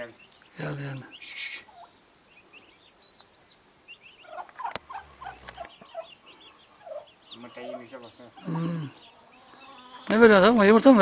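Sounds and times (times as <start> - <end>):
turkey poults peeping: 0.0 - 11.0
lower short turkey calls: 1.1 - 10.2.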